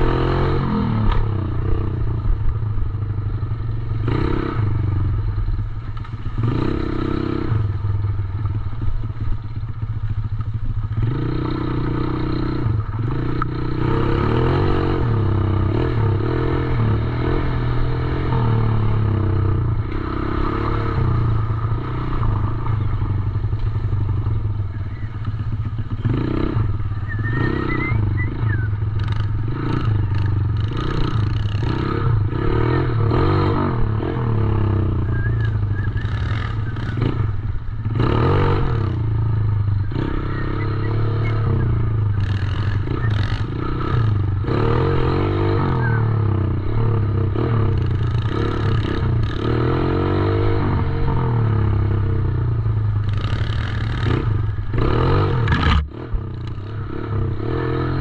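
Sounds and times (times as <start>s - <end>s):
dirt bike engine revving: 0.0s - 2.8s, 6.3s - 7.9s, 10.8s - 58.0s.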